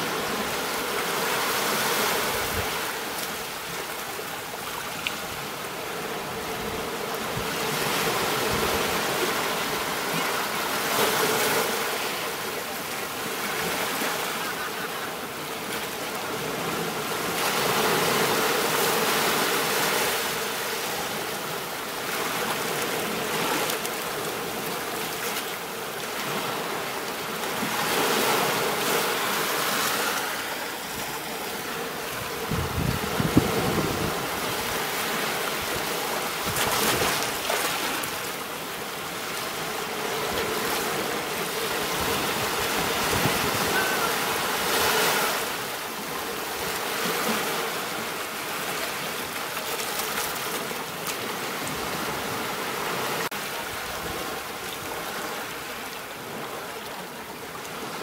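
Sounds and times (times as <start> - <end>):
ocean waves washing onto beach: 0.0 - 58.0.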